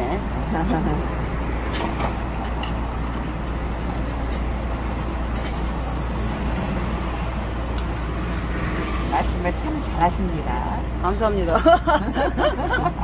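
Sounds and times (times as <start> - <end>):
grill rushing hum: 0.0 - 13.0
ribs sizzling on grill: 0.0 - 13.0.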